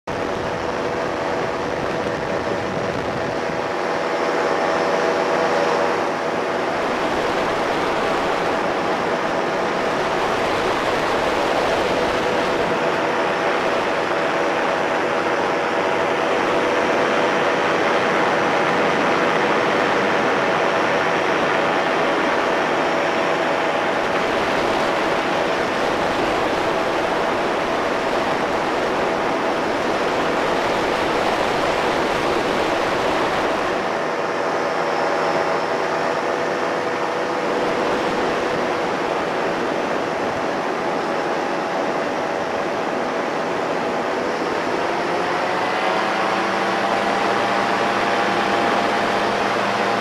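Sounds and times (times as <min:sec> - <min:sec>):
engine and propeller running: 0:00.0 - 0:50.0
wind on microphone: 0:00.0 - 0:50.0.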